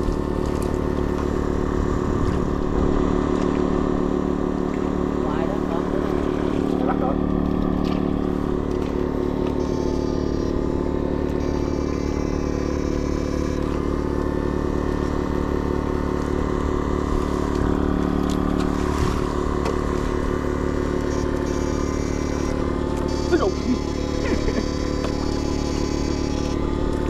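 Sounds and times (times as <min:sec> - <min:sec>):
steady machine drone: 0:00.0 - 0:27.0
thin high whine: 0:03.5 - 0:16.5, 0:17.1 - 0:27.0.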